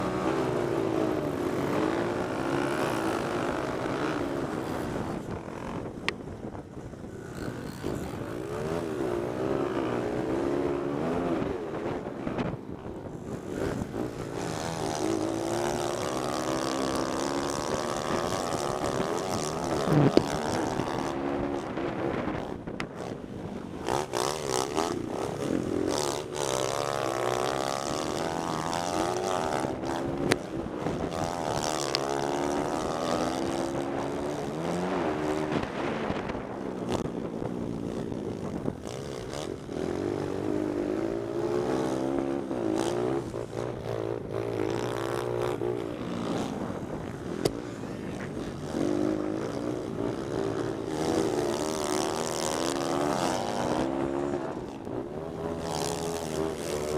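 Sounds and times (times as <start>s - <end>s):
pit bike engine revving: 0.0s - 56.9s
wind noise on microphone: 0.0s - 56.9s.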